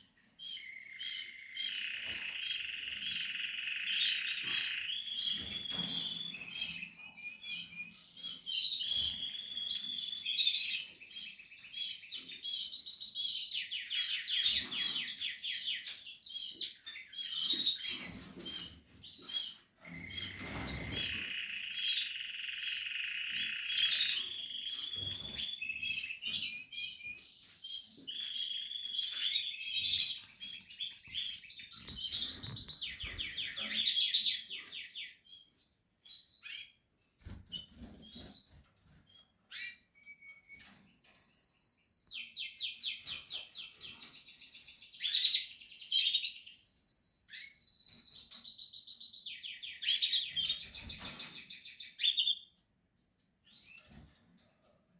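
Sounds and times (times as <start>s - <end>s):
canary trilling and chirping: 0.4s - 54.7s.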